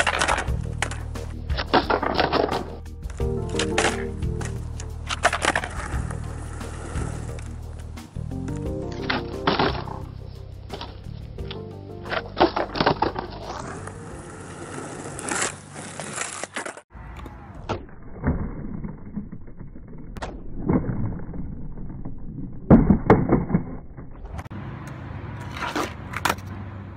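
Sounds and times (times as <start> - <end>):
skateboard wheels rolling on concrete: 0.0 - 26.9.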